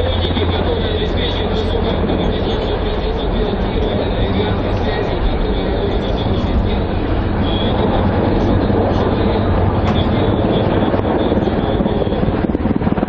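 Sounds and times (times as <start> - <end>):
helicopter rotor and turbine: 0.0 - 13.0.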